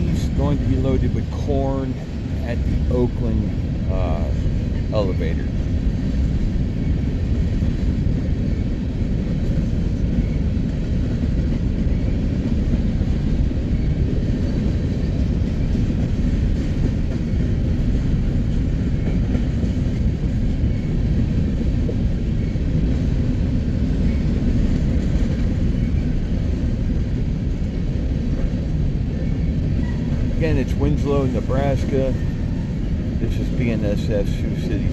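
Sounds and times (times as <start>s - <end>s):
train wheels rumbling on rail: 0.0s - 34.9s.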